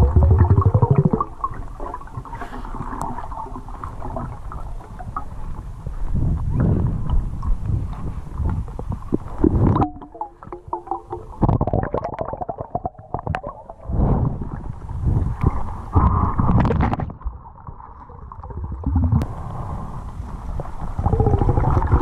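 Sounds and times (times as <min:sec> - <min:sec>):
underwater rumbling and gurgling: 0:00.0 - 0:22.0.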